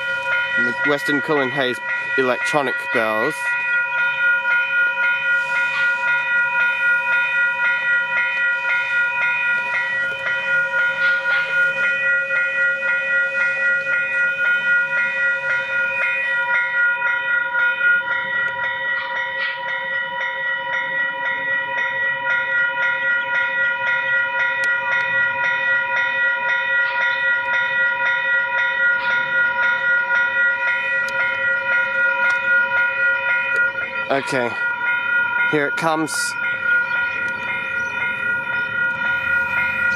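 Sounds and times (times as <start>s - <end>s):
level crossing bell ringing: 0.0s - 39.9s.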